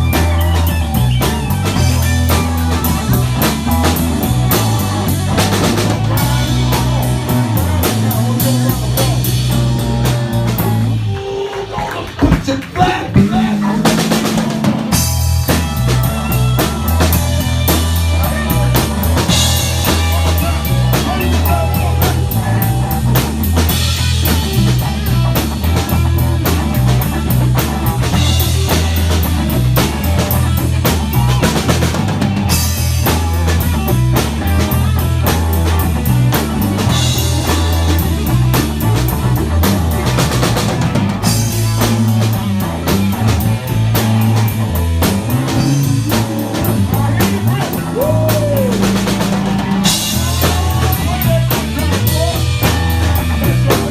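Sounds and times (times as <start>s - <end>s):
live band playing: 0.0s - 53.9s.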